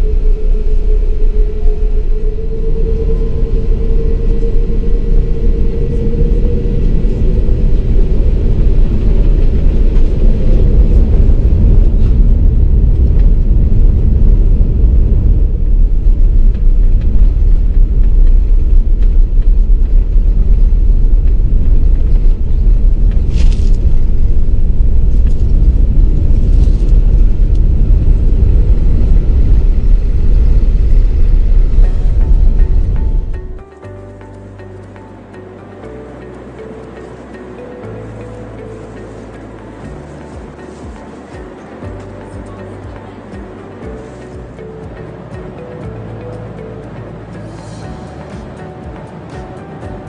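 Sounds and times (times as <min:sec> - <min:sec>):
engine tone: 0:00.0 - 0:50.0
jet engines deep rumble: 0:00.0 - 0:50.0.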